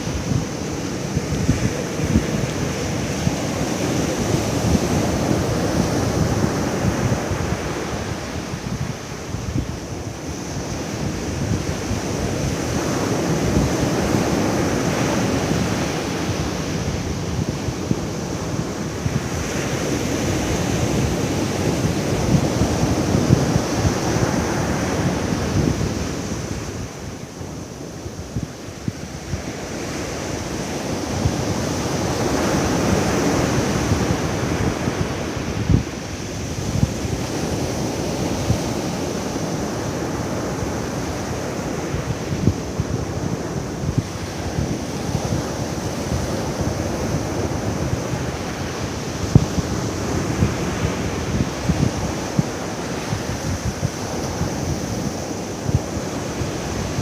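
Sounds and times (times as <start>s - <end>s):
surf breaking on beach: 0.0s - 57.0s
wind buffeting microphone: 0.0s - 57.0s.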